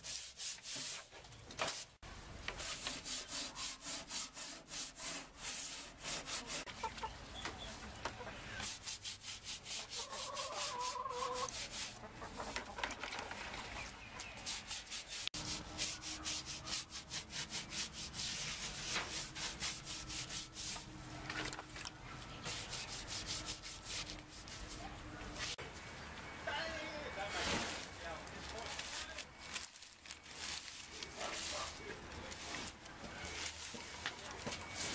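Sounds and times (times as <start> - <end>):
scraping strokes: 0.0 - 6.8, 8.5 - 21.6, 22.3 - 25.6, 27.2 - 34.9.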